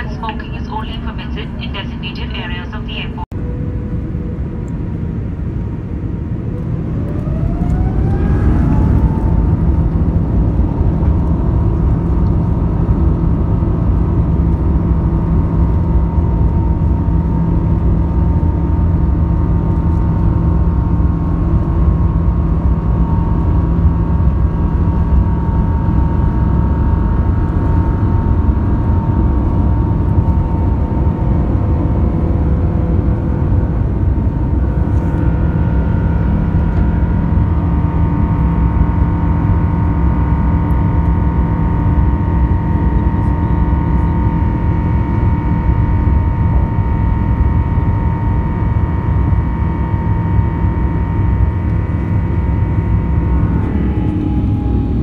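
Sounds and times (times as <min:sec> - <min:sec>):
jet engine whine: 0:00.0 - 0:55.0
loud low engine rumble: 0:00.0 - 0:55.0.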